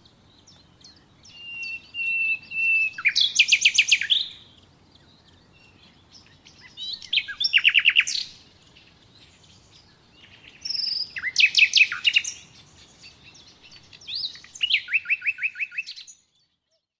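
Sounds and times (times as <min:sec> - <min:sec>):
songbird singing: 0:00.0 - 0:16.9.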